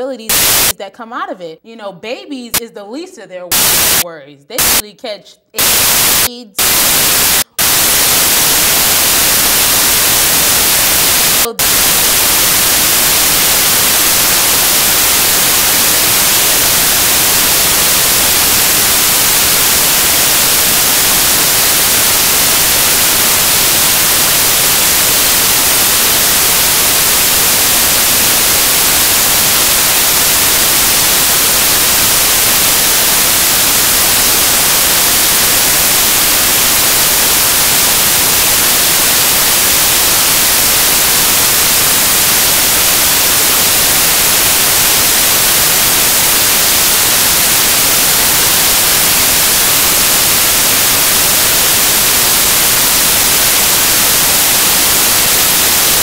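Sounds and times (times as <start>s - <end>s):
loud white-noise static: 0.0s - 0.8s, 3.5s - 4.0s, 4.6s - 4.8s, 5.6s - 56.0s.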